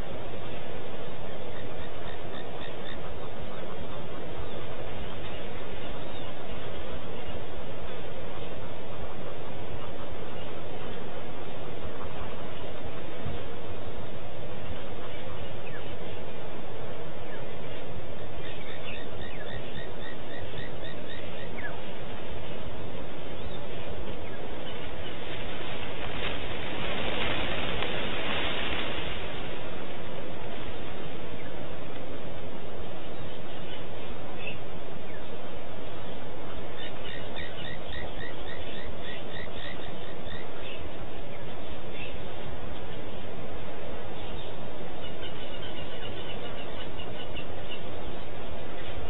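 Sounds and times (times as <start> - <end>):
outdoor background hiss and rumble: 0.0 - 49.0.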